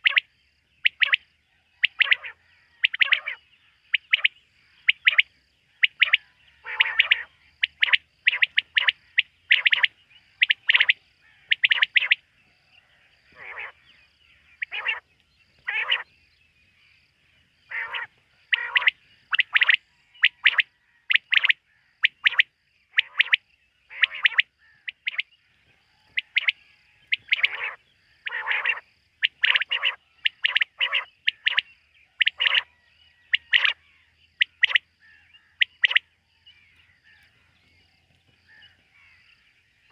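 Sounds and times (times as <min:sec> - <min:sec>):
quail calling: 0:00.0 - 0:12.2, 0:13.2 - 0:16.1, 0:17.7 - 0:25.3, 0:26.1 - 0:36.1.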